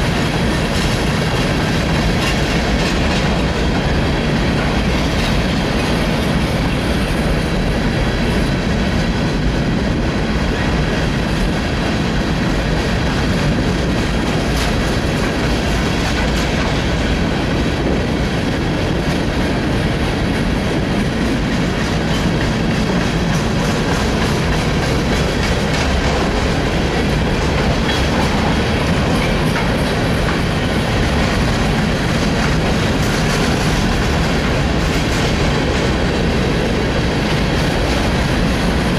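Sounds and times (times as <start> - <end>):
steel wheels rumbling on rail: 0.0 - 38.9
wheels clacking over rail joints: 0.0 - 38.9.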